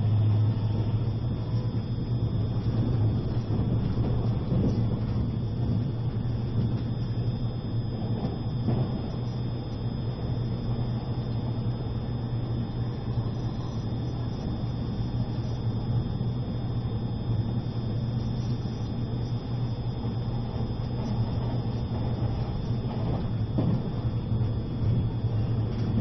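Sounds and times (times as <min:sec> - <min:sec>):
train cabin hum and rumble: 0:00.0 - 0:26.0.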